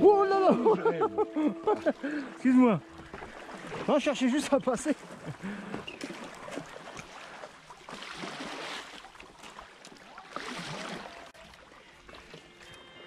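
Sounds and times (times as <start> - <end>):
faint water trickle: 0.9 - 13.0
paddle swishing through water: 1.4 - 12.9.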